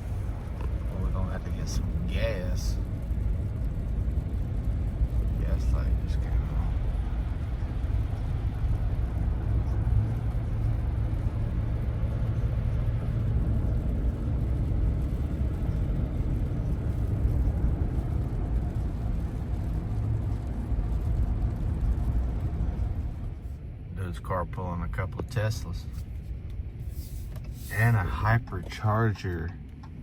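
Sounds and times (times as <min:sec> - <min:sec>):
low rumble of road and engine: 0:00.0 - 0:30.0.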